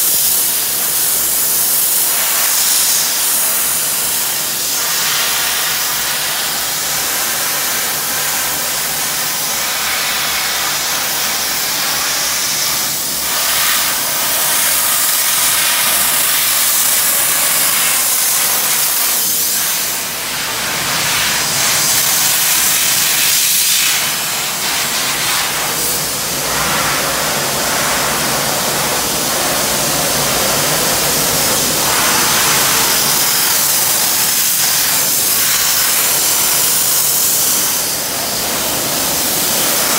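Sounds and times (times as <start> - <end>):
sandblast nozzle hissing: 0.0 - 39.9.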